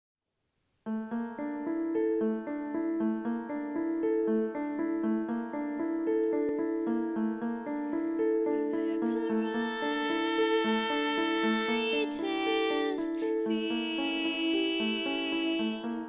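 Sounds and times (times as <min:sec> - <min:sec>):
piano broken-chord figure: 0:00.9 - 0:16.0.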